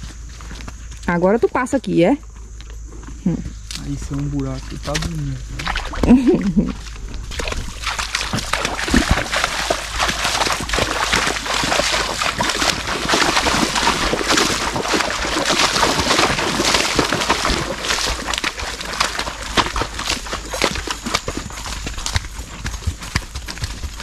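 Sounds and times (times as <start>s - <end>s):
hooves splashing through water: 3.2s - 24.0s.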